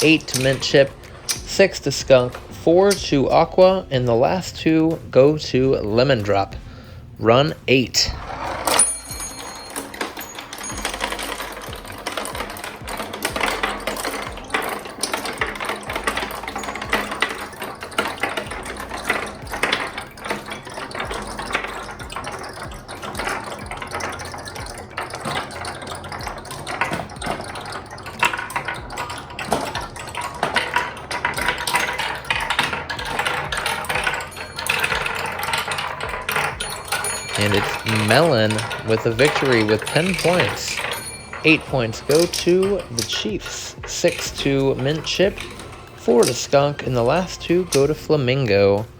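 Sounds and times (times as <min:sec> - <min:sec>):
marbles clattering down a track: 0:00.0 - 0:06.6, 0:07.2 - 0:48.9.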